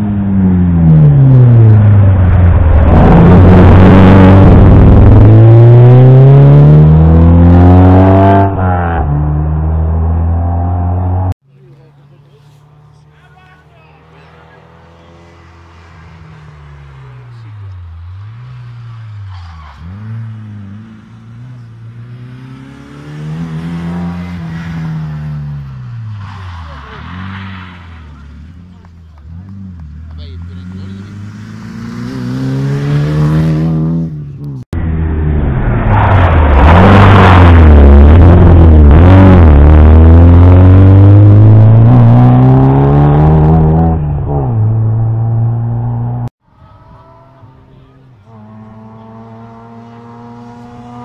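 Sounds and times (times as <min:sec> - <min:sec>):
rally car engine accelerating: 0:00.0 - 0:11.4, 0:13.8 - 0:46.3, 0:47.6 - 0:51.0.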